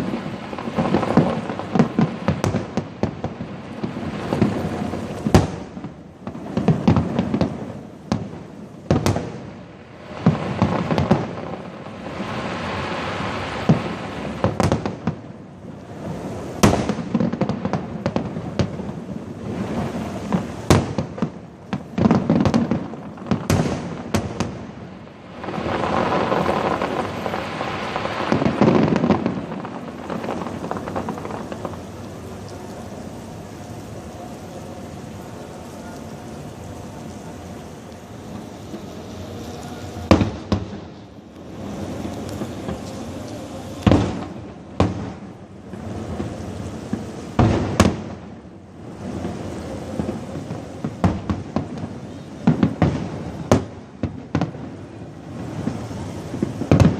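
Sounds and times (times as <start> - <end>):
fireworks bangs: 0.0 - 56.9
fireworks crackle: 0.0 - 56.9
steady background hiss: 0.0 - 56.9.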